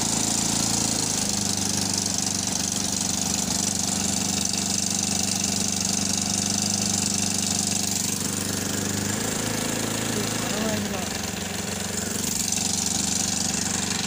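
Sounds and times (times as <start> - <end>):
single-cylinder engine idling: 0.0 - 14.0.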